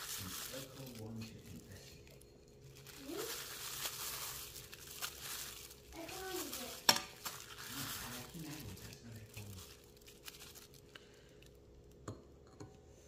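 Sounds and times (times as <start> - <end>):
breadcrumbs crunching: 0.0 - 11.9
plastic glove crinkling: 0.0 - 12.0.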